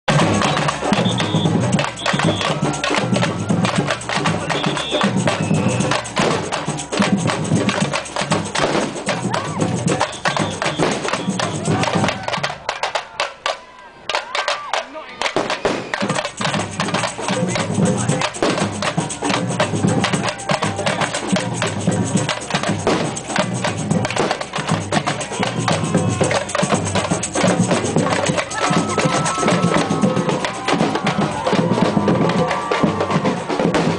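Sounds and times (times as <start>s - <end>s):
percussion band drumming: 0.1s - 33.9s
wood-block strikes: 0.1s - 33.9s.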